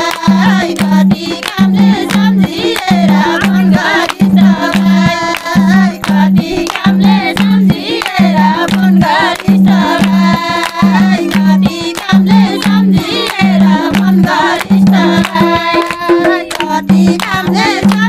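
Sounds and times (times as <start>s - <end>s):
drum beating: 0.0s - 18.0s
hand-clapping: 0.0s - 18.0s
women singing a folk song: 0.0s - 18.0s.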